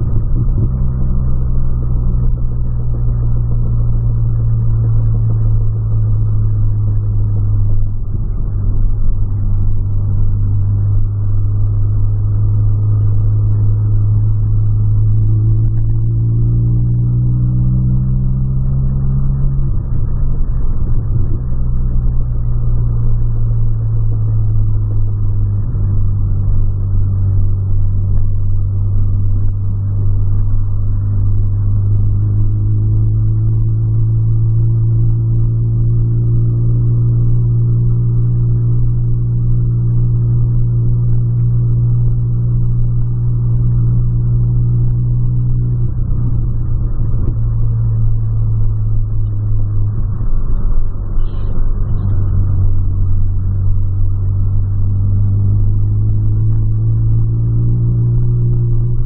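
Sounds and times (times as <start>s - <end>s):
car engine drone inside cabin: 0.0s - 59.0s.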